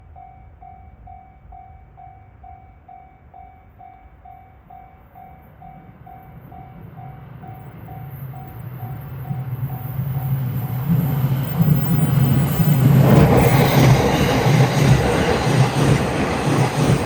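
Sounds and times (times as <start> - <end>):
crossing warning bell dinging: 0.0 - 17.0
electric train rumble: 0.0 - 17.0.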